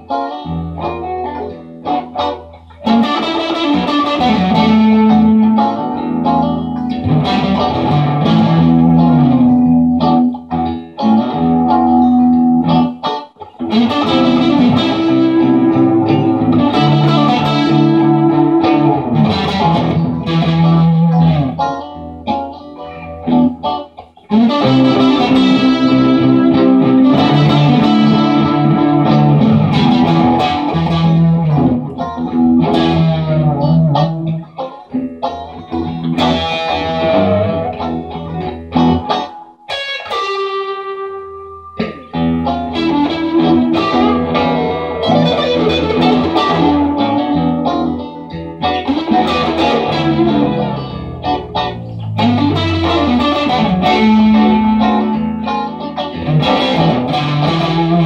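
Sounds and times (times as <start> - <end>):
amplified electric guitar: 0.0 - 58.0.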